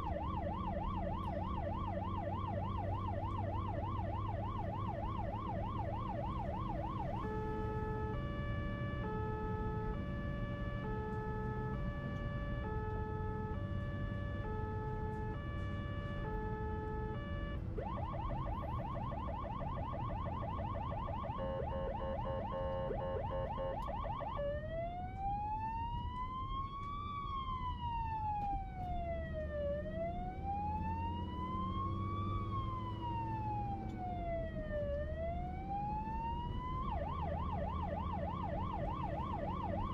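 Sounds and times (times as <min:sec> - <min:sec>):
emergency vehicle siren: 0:00.0 - 0:39.9
traffic noise: 0:00.0 - 0:39.9.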